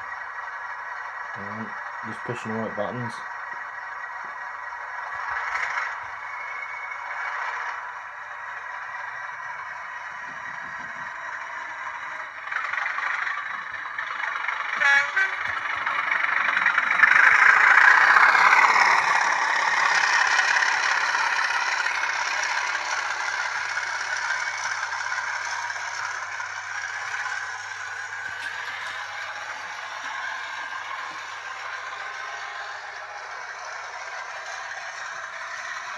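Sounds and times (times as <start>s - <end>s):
model train diesel engine sound: 0.0s - 35.9s.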